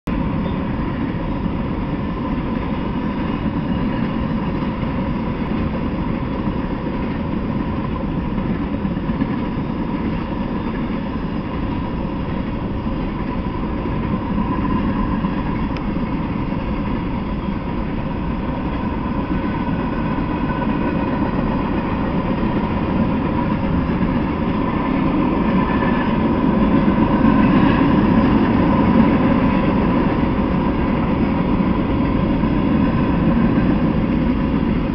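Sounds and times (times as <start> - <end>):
freight train wheels rumbling: 0.0 - 34.9.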